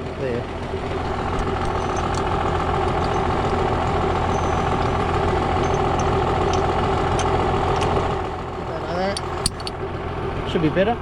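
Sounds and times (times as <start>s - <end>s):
tractor engine running: 0.0s - 10.2s.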